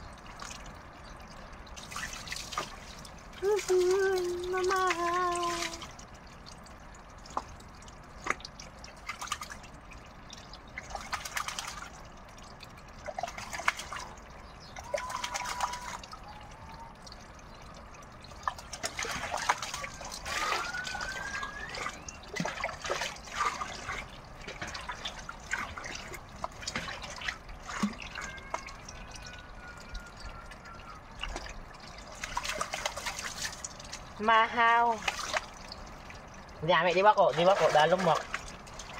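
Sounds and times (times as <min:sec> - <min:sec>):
water trickling into metal basin: 0:00.0 - 0:38.9.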